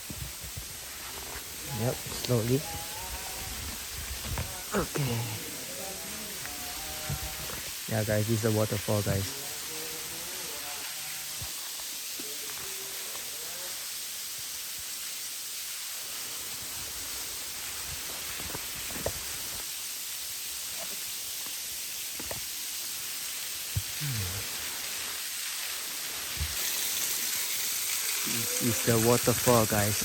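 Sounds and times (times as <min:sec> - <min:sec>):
small waterfall rushing: 0:00.0 - 0:30.0.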